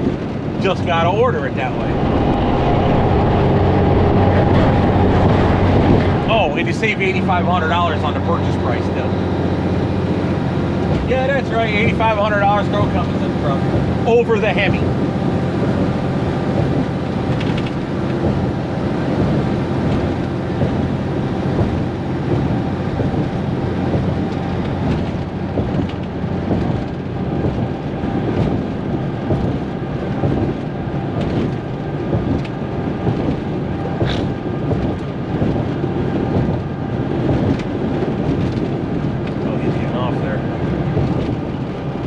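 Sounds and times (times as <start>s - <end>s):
road and wind noise: 0.0s - 42.0s
truck diesel engine running: 0.0s - 42.0s.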